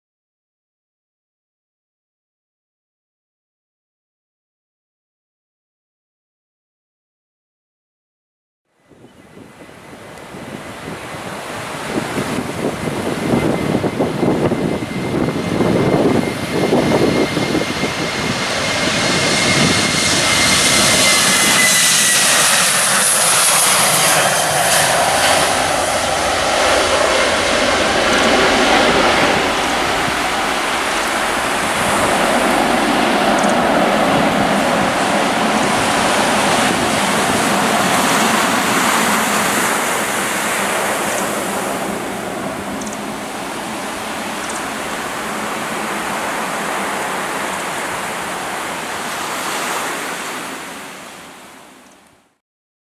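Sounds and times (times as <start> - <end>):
jet taking off: 9.0 - 51.5.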